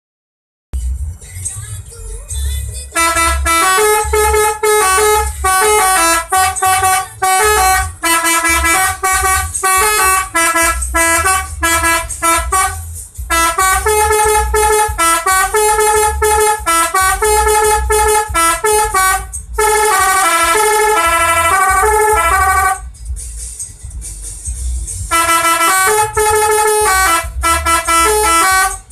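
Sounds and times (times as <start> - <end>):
steady low rumble: 0.8 - 28.9
multi-trumpet bus horn melody: 2.9 - 22.9, 25.0 - 28.9.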